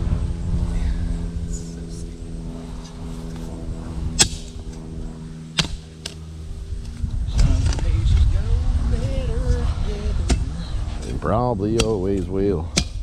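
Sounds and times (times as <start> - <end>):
motor running: 0.0 - 13.0.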